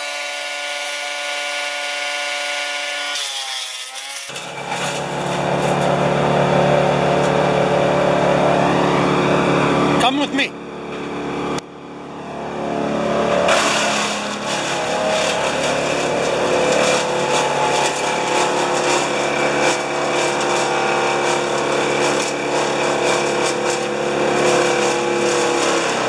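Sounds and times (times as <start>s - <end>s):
wood chipper engine drone: 0.0s - 26.0s
branches crackling and grinding: 3.4s - 26.0s.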